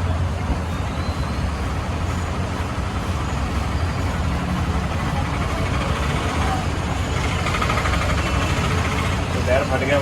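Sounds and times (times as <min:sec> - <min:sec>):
low engine rumble: 0:00.0 - 0:10.0.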